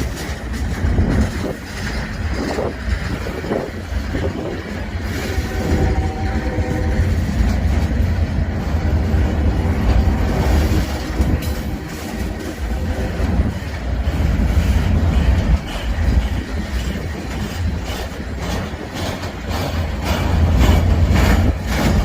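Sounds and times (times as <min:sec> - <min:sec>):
heavy train rumble: 0:00.0 - 0:22.0
train wheels clacking: 0:00.0 - 0:22.0.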